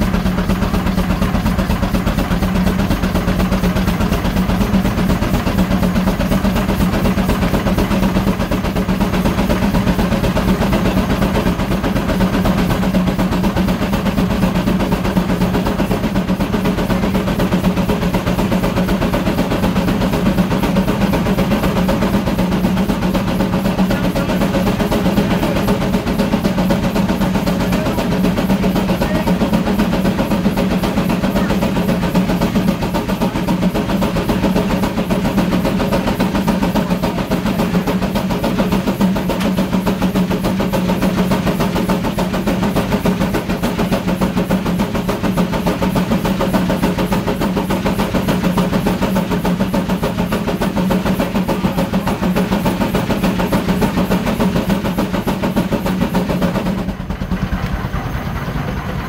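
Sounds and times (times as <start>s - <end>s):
running drive belt: 0.0s - 59.0s
steam engine exhaust beat: 0.0s - 59.0s.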